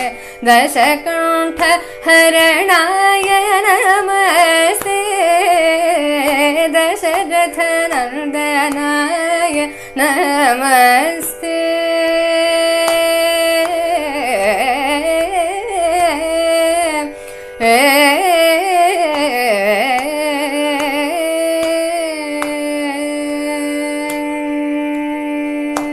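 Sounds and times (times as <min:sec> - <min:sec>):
woman singing ornamented melody: 0:00.0 - 0:25.9.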